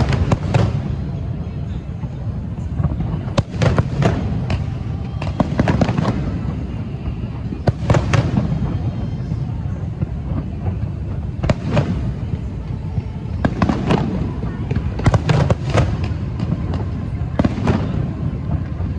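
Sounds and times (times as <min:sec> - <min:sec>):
fireworks banging and crackling: 0:00.0 - 0:18.9.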